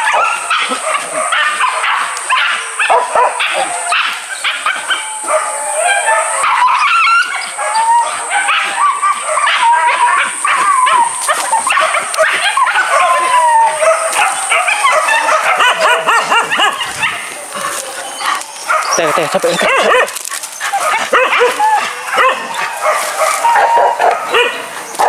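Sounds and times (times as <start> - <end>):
dogs barking and yelping: 0.0 - 25.0.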